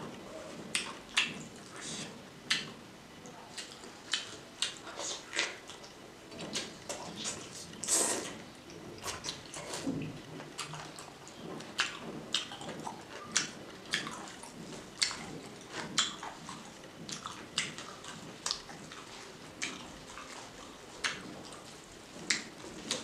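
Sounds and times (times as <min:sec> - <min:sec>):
wet chewing and mouth smacking: 0:00.1 - 0:02.8, 0:03.5 - 0:23.0.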